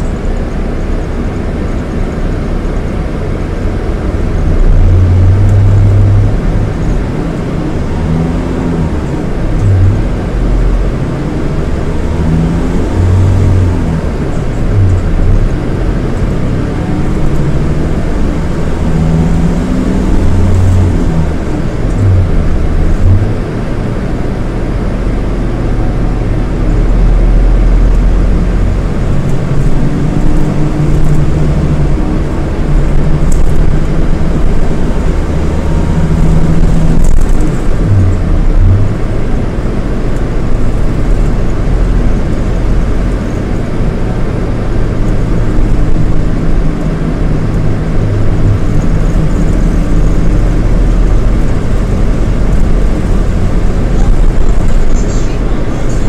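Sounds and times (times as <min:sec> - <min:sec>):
diesel coach engine revving: 0:00.0 - 0:56.0.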